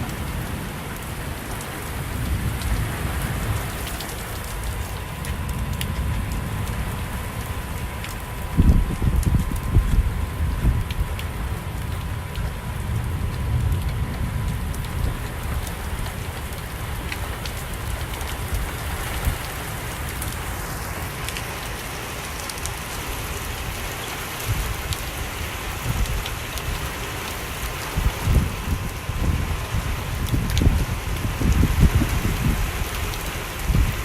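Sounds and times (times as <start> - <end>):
heavy rain falling: 0.0 - 34.0
low rumbling gusts: 0.0 - 34.0.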